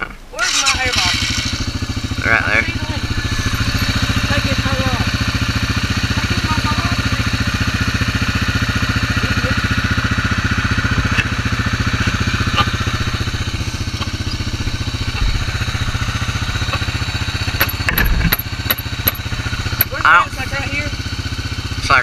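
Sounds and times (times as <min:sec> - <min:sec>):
atv engine idling: 0:00.4 - 0:22.0.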